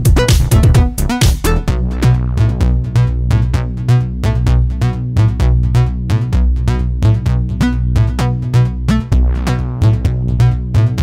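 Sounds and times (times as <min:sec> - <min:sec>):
drum-machine beat: 0:00.0 - 0:04.6, 0:05.2 - 0:11.0
synthesizer notes: 0:00.0 - 0:11.0.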